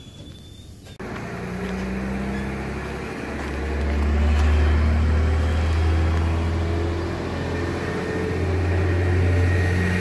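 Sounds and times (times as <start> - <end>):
diesel railcar engine droning: 0.0 - 10.0.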